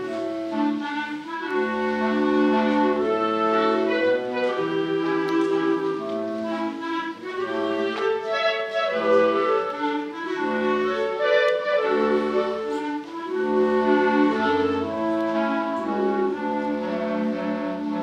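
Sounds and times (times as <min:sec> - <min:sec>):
clarinet choir playing a waltz: 0:00.0 - 0:18.0.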